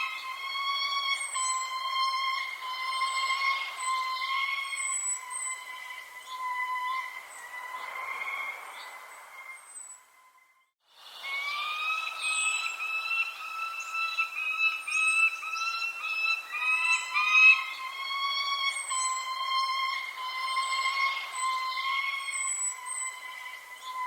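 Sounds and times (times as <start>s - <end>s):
birds whistling: 0.0s - 24.0s.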